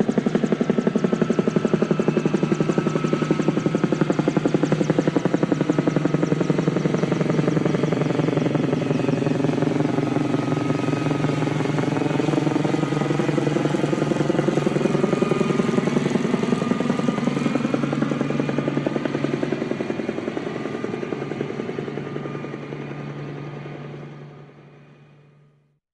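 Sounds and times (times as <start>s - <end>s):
helicopter rotor chop: 0.0s - 25.4s
helicopter engine hum: 0.0s - 25.6s.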